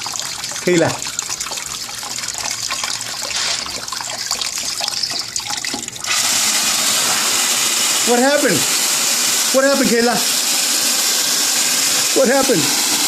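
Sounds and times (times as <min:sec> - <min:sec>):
water running into plastic bucket: 0:00.0 - 0:13.0.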